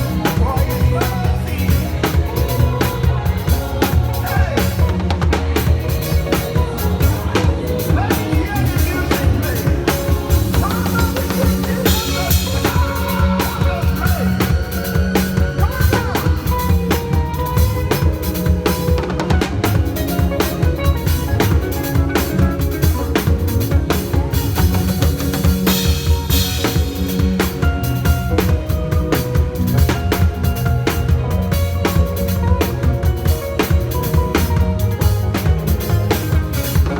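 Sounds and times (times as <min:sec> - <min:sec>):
drum kit beat: 0:00.0 - 0:36.9.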